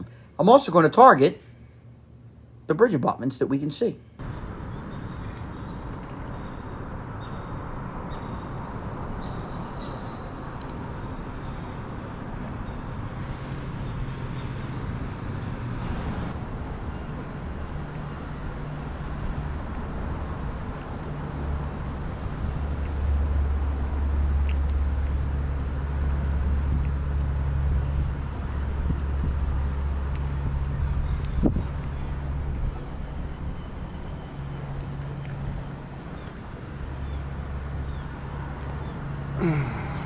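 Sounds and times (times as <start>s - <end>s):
wind: 0.0s - 40.0s
passing traffic engine rumble: 4.2s - 40.0s.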